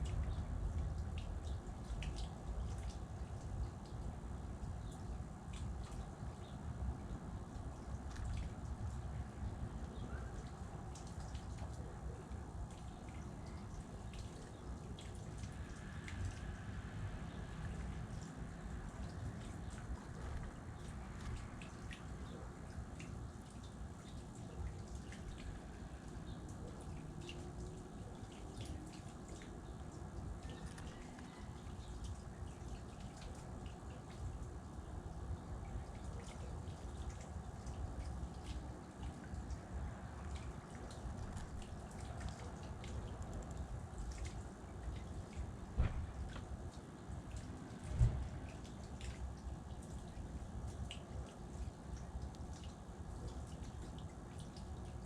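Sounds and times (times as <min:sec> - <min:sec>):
light ticks and drip-like taps: 0:00.0 - 0:55.0.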